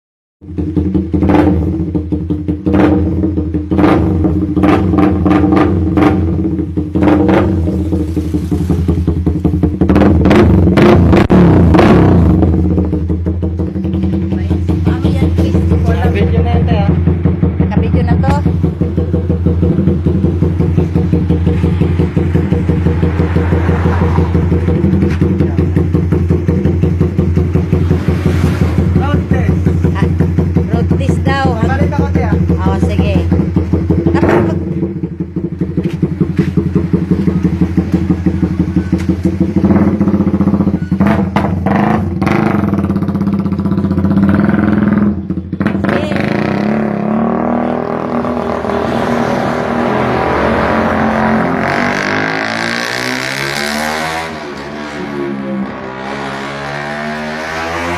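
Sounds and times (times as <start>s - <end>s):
motorcycle engine revving: 0.4s - 57.9s.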